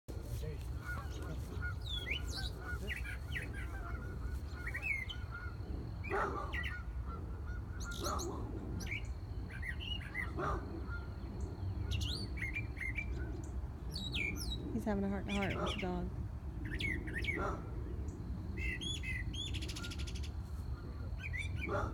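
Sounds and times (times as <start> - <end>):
birds chirping and singing: 0.1 - 21.9.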